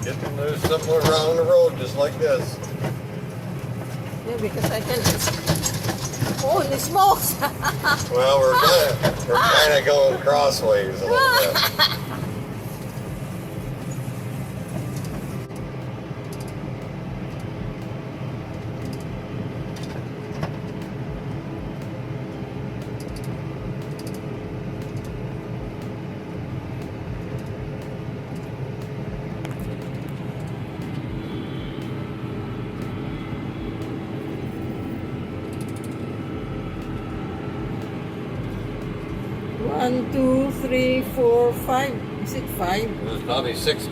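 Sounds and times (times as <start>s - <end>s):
steady hum: 0.0s - 43.9s
tractor engine low drone: 0.0s - 43.9s.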